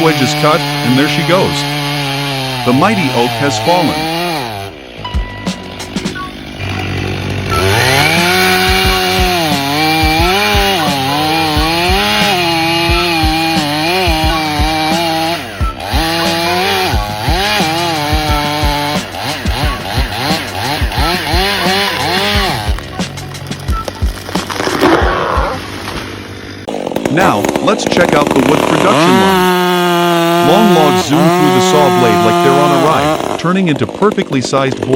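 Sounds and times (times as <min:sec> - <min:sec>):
chainsaw running and cutting: 0:00.0 - 0:34.9.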